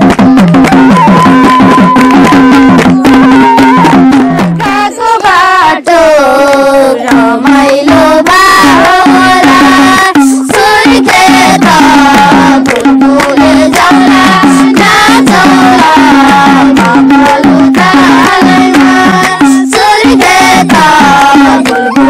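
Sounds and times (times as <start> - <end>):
person singing: 0.0 - 22.0
quick drum beat: 0.0 - 22.0.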